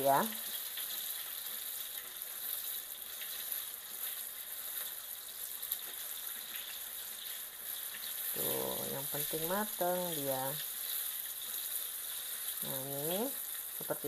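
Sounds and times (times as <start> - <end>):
chicken deep-frying in oil: 0.0 - 14.0
metal tongs turning food: 0.1 - 14.0.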